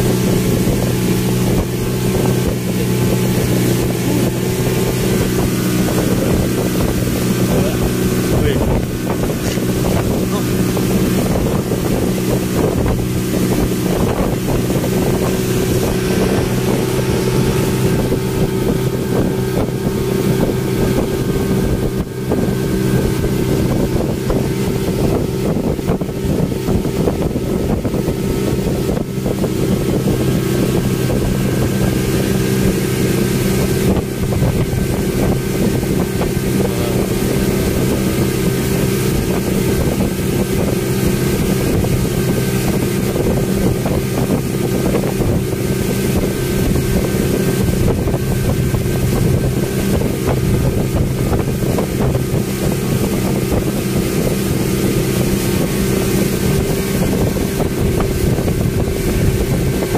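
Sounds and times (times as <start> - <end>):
speedboat engine droning: 0.0 - 59.9
wind noise on microphone: 0.0 - 59.9.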